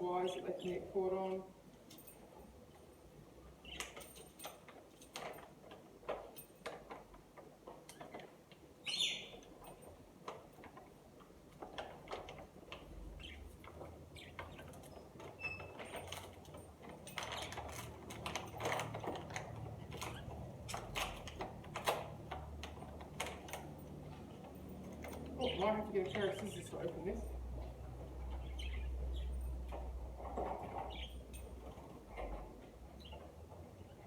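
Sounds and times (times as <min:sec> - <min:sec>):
hands handling items at a wire cage: 0:01.6 - 0:34.0.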